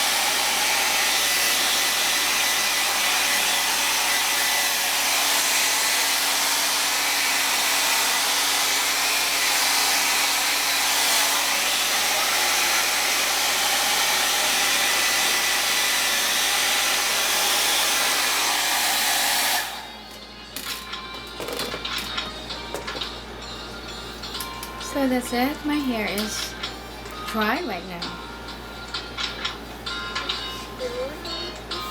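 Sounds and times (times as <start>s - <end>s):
hair dryer running: 0.0s - 31.9s.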